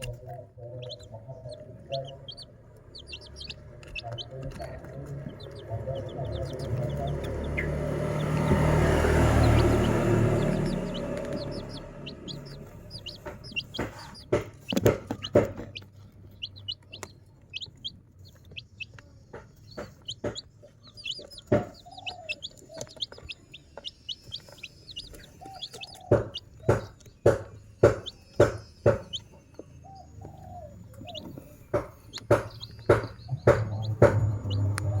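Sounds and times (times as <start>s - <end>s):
chicks peeping: 0.0s - 35.0s
clucking calls: 0.0s - 35.0s
sharp taps and clicks: 1.4s - 29.2s, 31.1s - 35.0s.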